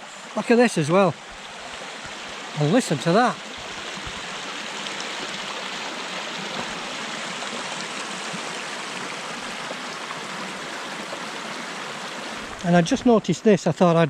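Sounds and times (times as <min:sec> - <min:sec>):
stream rushing water: 0:00.0 - 0:14.0.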